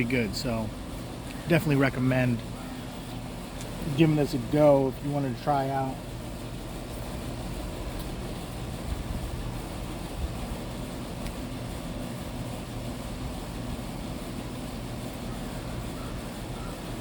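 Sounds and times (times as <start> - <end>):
faint even hum: 0.0 - 17.0
low rumble and hiss: 0.0 - 17.0.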